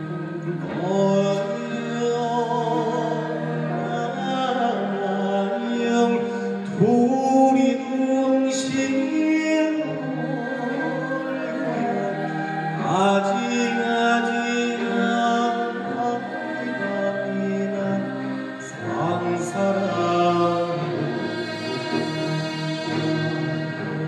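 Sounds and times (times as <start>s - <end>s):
man singing long notes: 0.0s - 24.0s
traditional orchestra: 0.0s - 24.0s.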